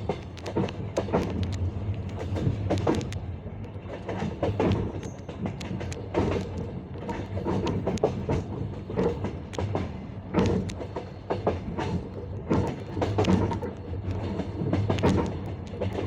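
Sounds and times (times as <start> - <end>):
low rumble of moving carriage: 0.0 - 16.0
train wheels clattering over rail joints: 0.0 - 16.0.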